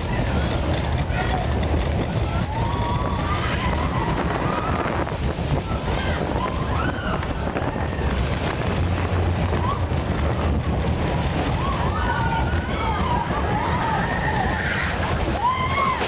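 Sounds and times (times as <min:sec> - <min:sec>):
riders whooping: 0:00.0 - 0:16.0
roller coaster rumbling on track: 0:00.0 - 0:16.0
wind buffeting microphone: 0:00.0 - 0:16.0.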